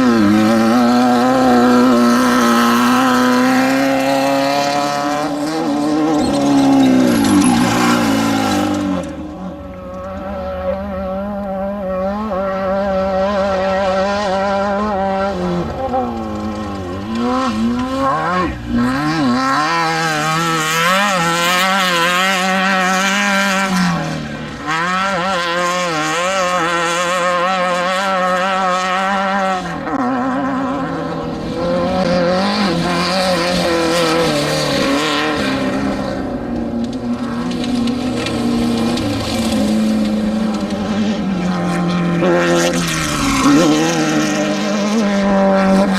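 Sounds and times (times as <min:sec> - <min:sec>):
race vehicle engine revving: 0:00.0 - 0:45.9.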